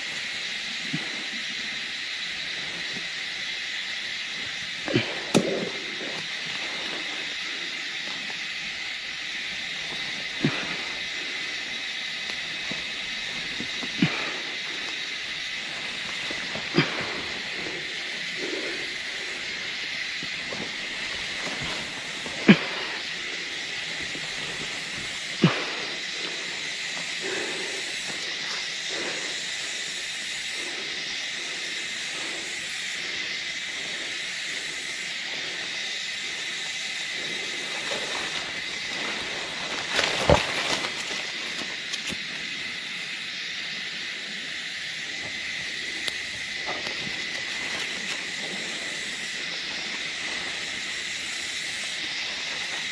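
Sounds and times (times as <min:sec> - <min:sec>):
insect chorus: 0:00.0 - 0:52.9.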